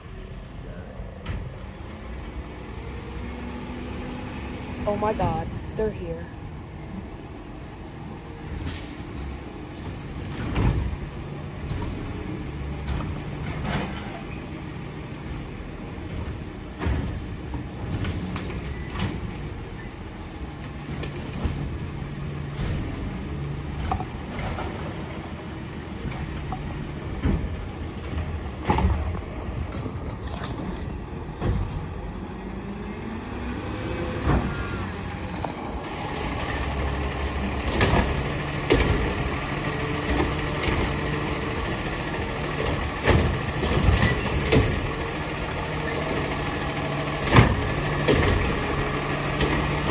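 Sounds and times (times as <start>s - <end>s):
garbage truck diesel engine revving: 6.6s - 49.9s.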